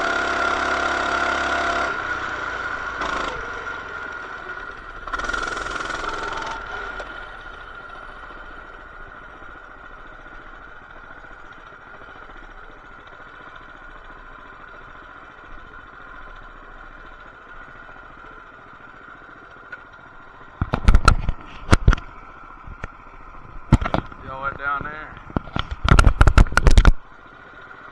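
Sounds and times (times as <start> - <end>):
small engine running steadily: 0.0 - 27.9.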